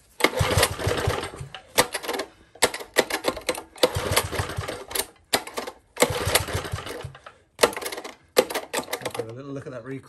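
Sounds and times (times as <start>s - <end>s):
engine cranking without starting: 0.0s - 9.4s.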